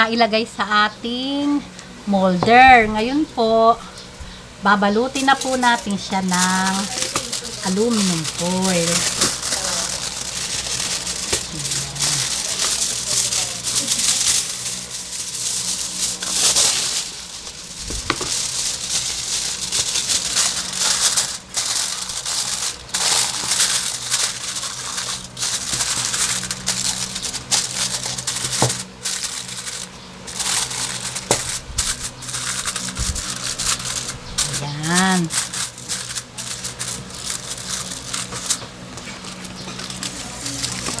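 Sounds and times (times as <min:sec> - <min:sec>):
aluminum foil crinkling: 0:02.5 - 0:41.0.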